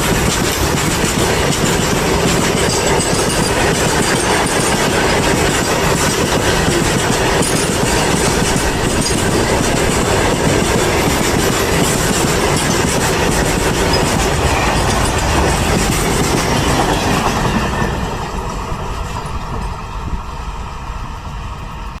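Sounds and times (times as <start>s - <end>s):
freight train wheels clattering: 0.0s - 22.0s.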